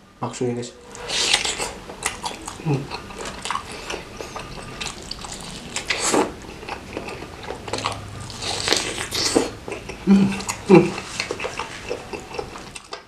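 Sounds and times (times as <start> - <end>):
biting and chewing meatball: 0.9 - 13.0.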